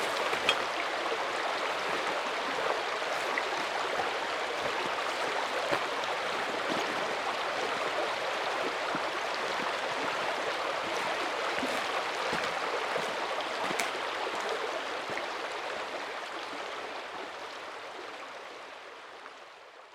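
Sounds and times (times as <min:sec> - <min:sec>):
mountain stream running: 0:00.0 - 0:19.9.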